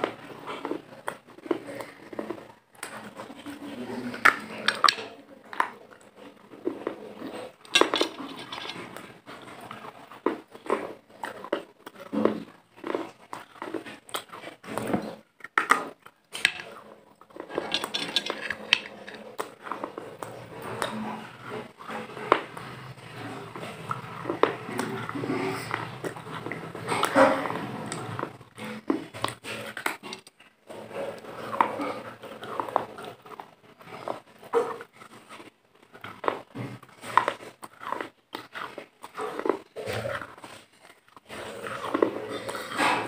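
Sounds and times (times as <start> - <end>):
crunching and chewing: 0.0 - 43.0.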